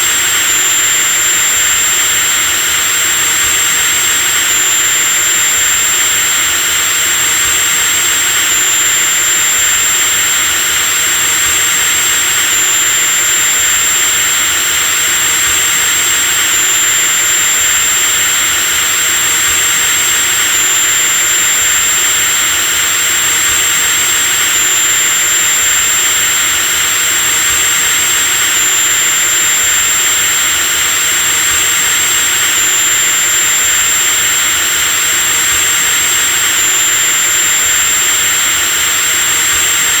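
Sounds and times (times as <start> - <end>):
electric drill running: 0.0 - 40.0.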